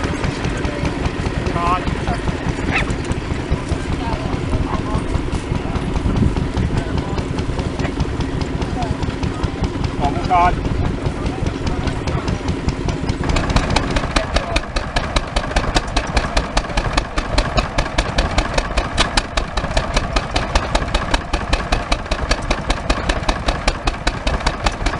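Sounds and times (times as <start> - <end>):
stationary engine knocking: 0.0 - 24.9.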